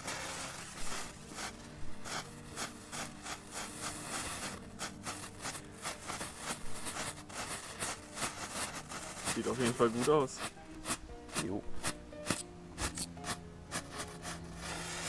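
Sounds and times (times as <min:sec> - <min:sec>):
fireworks crackling and hissing: 0:00.0 - 0:15.0.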